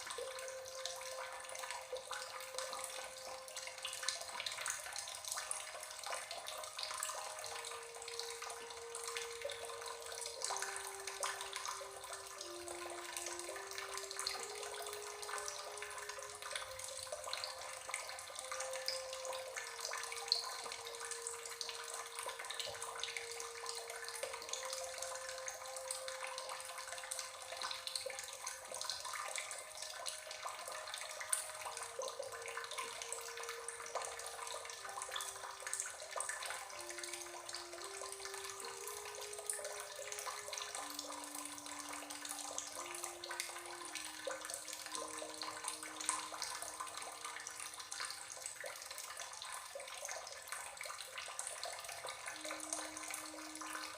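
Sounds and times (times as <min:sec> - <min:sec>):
babbling water: 0:00.0 - 0:53.9
soft slow melody: 0:00.0 - 0:53.9.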